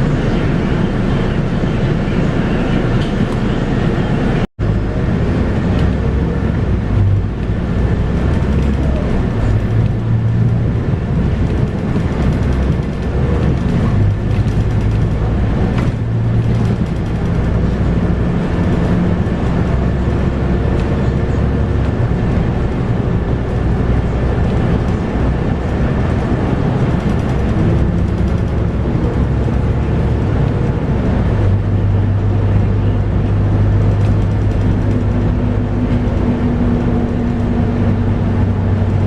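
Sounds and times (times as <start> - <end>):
bus diesel engine running: 0.0 - 39.0.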